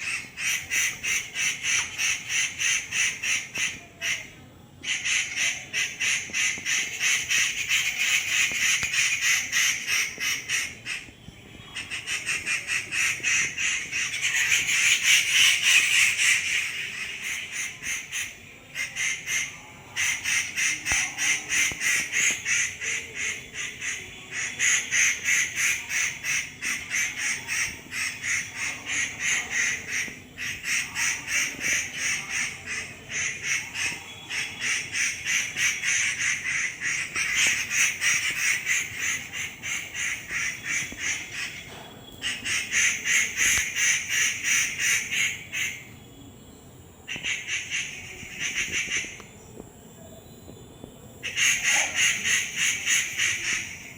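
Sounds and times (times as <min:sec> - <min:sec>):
birds calling repeated notes: 0:00.0 - 0:53.9.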